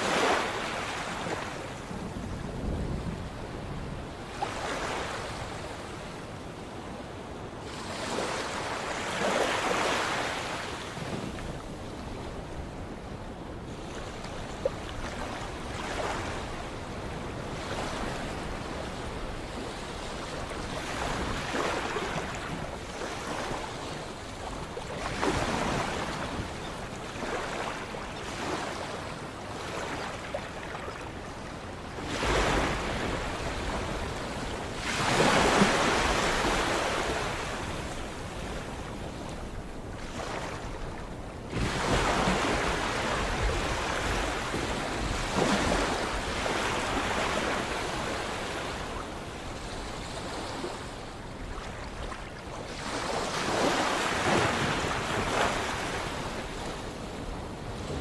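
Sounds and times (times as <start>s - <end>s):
sea waves breaking ashore: 0.0s - 3.3s, 13.6s - 31.0s, 31.6s - 58.0s.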